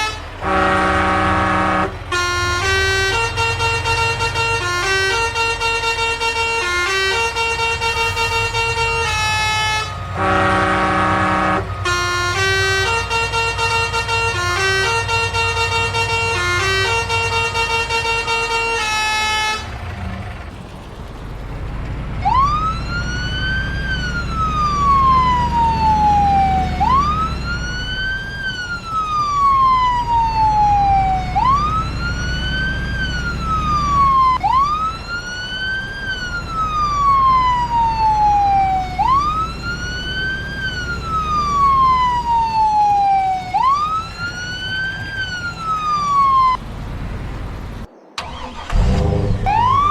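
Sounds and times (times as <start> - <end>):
low engine rumble: 0.0 - 49.9
vehicle siren wailing: 0.0 - 49.9.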